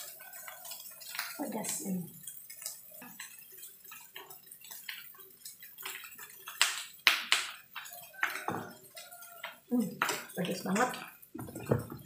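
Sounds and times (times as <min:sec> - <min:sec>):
rice sizzling in frying pan: 0:00.0 - 0:12.0.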